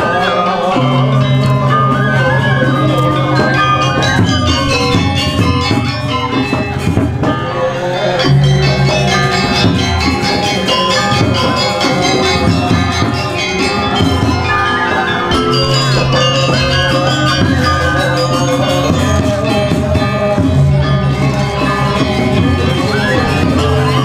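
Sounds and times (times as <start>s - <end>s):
metallophones ringing fast notes: 0.0s - 24.0s.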